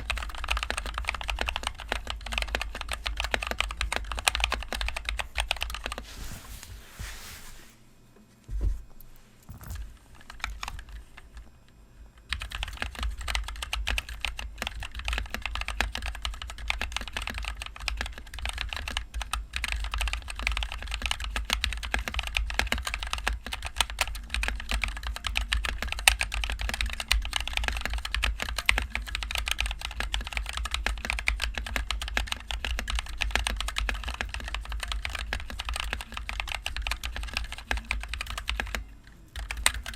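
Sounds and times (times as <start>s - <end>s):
mechanical keyboard typing: 0.0s - 6.0s, 10.2s - 11.4s, 12.3s - 39.9s.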